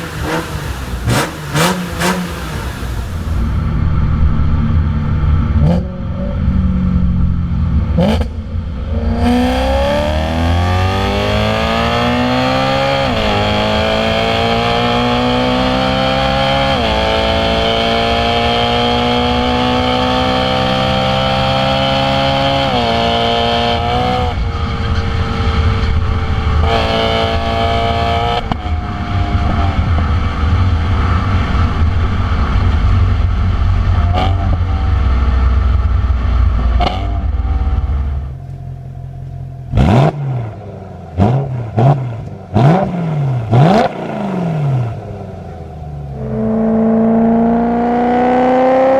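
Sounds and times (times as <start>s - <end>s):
car engine and exhaust accelerating: 0.0s - 48.9s.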